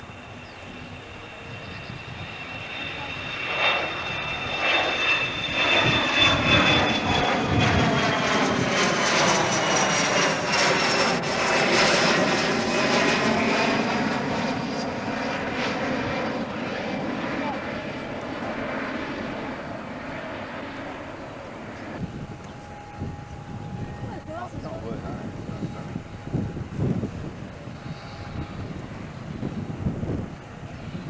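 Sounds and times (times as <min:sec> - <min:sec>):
airliner engines passing: 0:00.0 - 0:31.0
high engine whine: 0:00.0 - 0:31.0.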